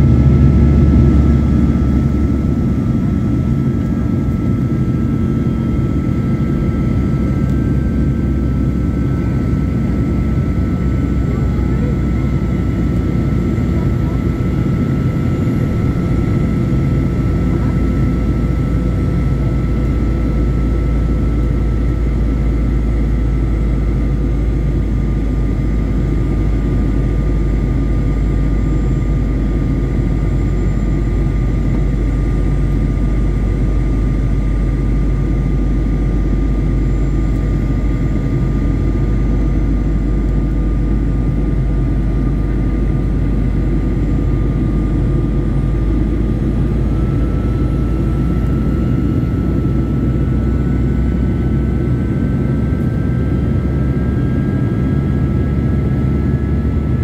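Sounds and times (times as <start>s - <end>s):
faint steady whines: 0.0s - 57.0s
jet cabin engine rumble: 0.0s - 57.0s.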